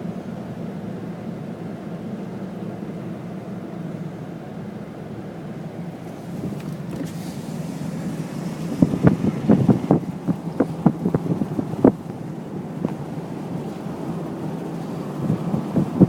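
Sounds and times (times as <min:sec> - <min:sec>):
vehicle engine low drone: 0:00.0 - 0:16.0.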